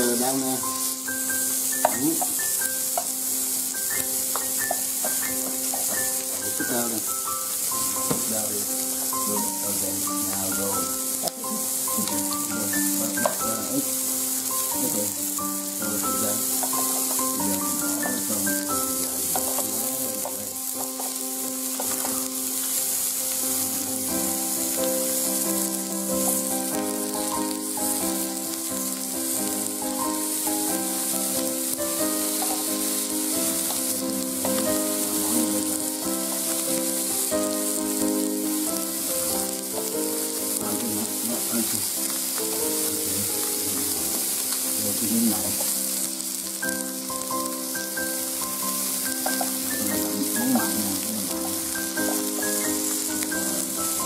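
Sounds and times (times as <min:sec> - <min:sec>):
background music: 0:00.0 - 0:54.0
meat sizzling on a grill: 0:00.0 - 0:54.0.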